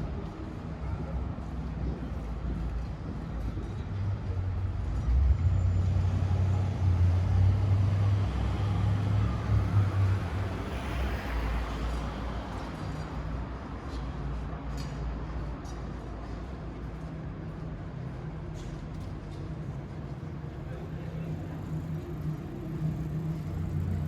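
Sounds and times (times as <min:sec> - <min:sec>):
tyre noise of passing vehicle: 0:00.0 - 0:24.0.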